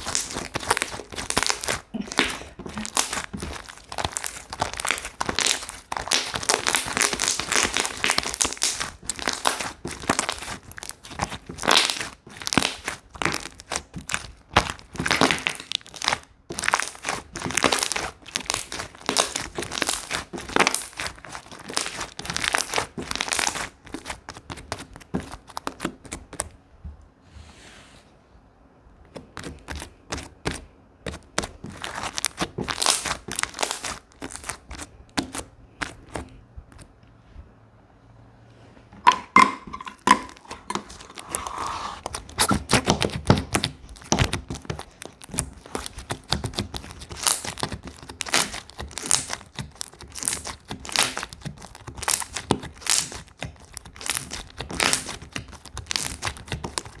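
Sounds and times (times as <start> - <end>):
slime squished by hand: 0.0 - 26.6, 29.1 - 36.9, 39.0 - 57.0.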